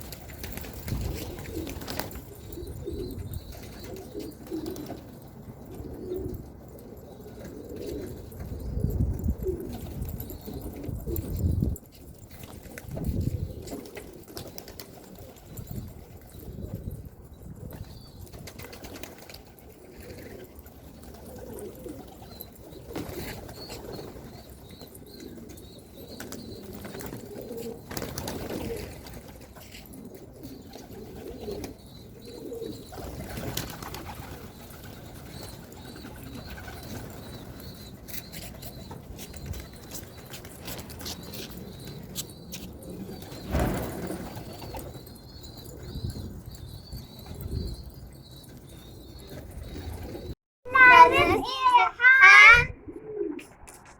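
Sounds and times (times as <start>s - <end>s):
pigeons cooing: 0.0s - 11.7s, 12.6s - 50.4s, 52.8s - 53.9s.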